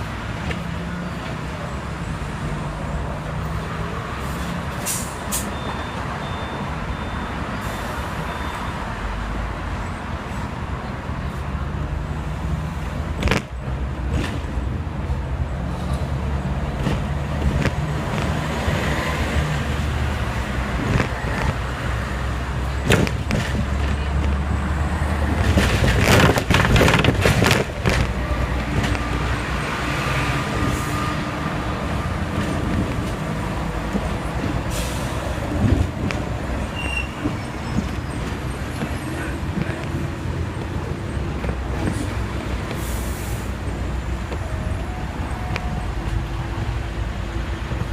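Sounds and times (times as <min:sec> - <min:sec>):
tram rumbling on track: 0:00.0 - 0:47.9.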